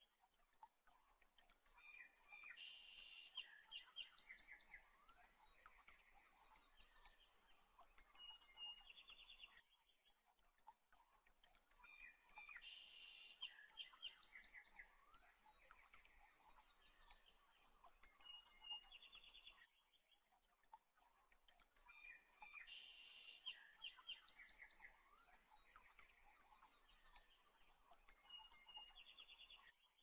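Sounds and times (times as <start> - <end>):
faint birdsong with trills: 0.0 - 30.0.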